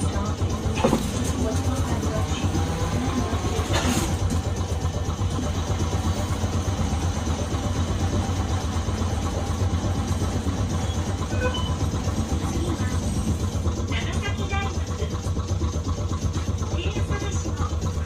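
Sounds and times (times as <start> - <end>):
tram running on rails: 0.0 - 18.0.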